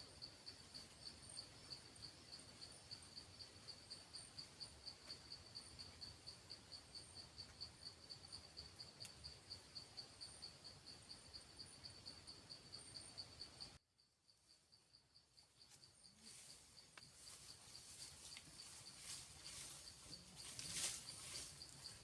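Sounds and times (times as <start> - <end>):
faint insect chirping: 0.0 - 22.0.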